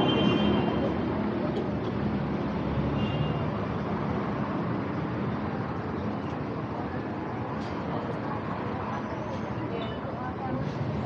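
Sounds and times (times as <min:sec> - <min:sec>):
car traffic: 0:00.0 - 0:11.0.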